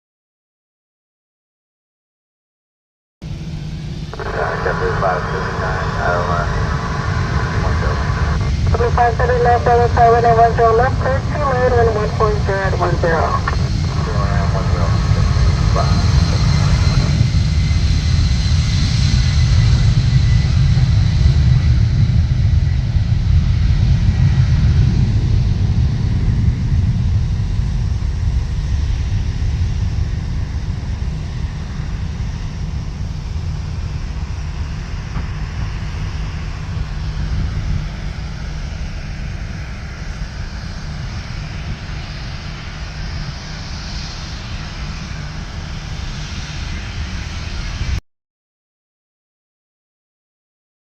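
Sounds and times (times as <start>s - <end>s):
airliner engines rumbling and whining: 3.2s - 48.0s.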